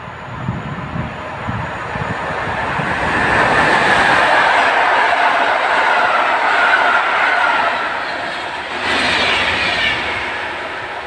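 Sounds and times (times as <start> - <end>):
train coaches rolling on rails: 0.0 - 11.0.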